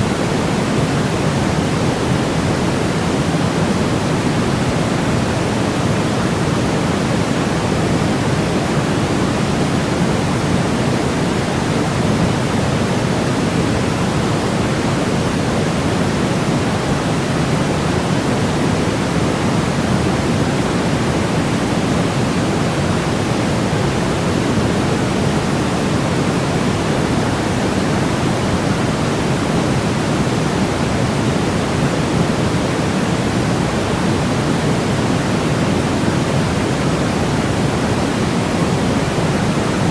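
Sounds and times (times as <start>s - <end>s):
steady low-heavy noise hiss: 0.0s - 39.9s.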